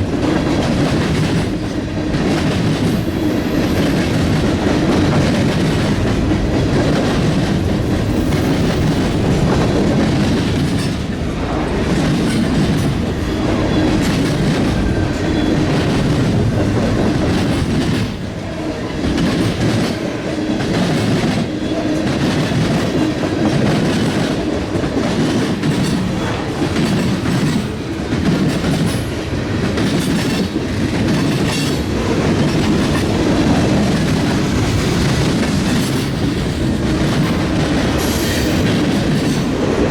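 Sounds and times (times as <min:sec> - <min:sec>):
freight train rumbling past: 0:00.0 - 0:39.9
train wheels clicking over rails: 0:00.0 - 0:39.9.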